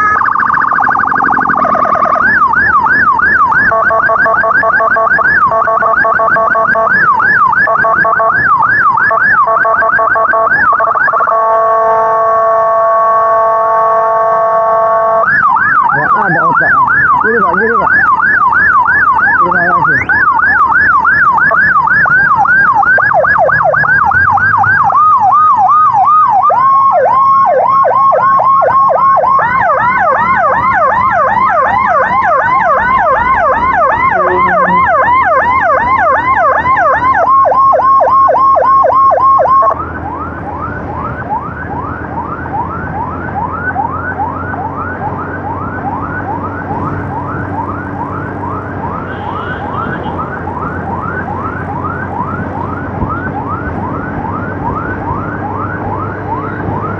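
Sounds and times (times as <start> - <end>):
emergency sirens yelping: 0.0 - 56.9
engine and road rumble: 0.0 - 56.9.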